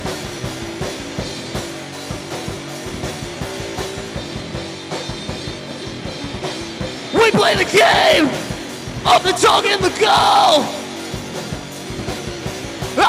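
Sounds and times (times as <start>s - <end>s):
rock band instrumental: 0.0s - 13.0s.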